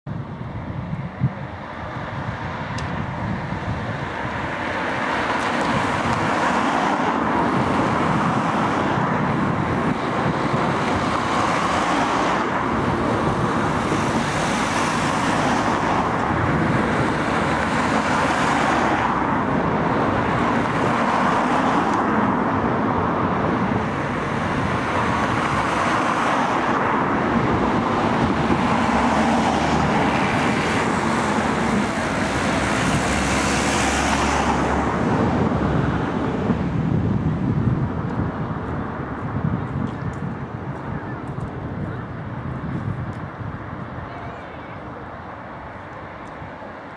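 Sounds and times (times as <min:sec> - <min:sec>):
road traffic noise: 0:00.0 - 0:46.9.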